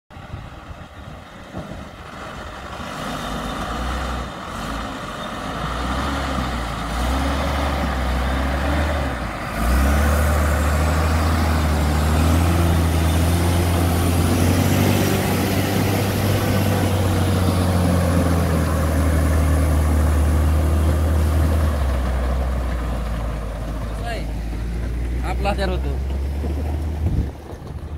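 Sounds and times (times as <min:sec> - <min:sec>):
truck diesel engine droning: 0:00.1 - 0:27.9.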